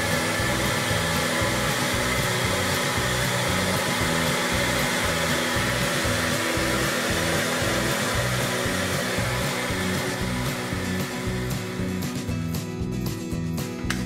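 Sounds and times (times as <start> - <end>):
hair dryer running: 0.0 - 12.5
background music: 0.0 - 14.0.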